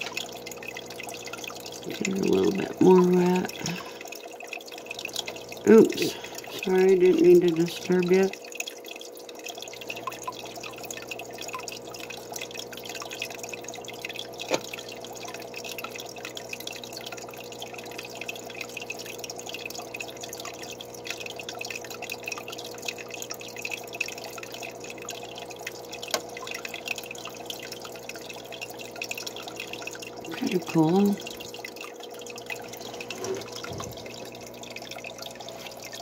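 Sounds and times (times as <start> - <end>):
water dripping and trickling: 0.0 - 36.0.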